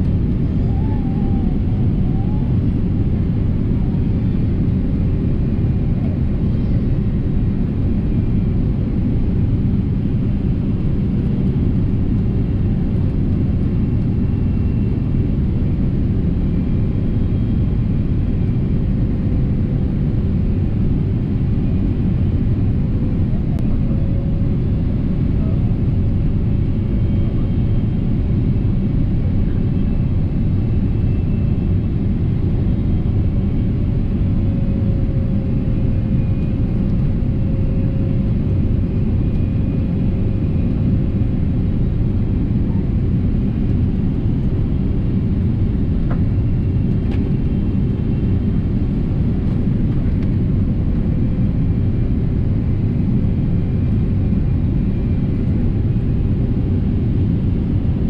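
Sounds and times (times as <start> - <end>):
jet engine rumble and rushing air: 0.0 - 58.0.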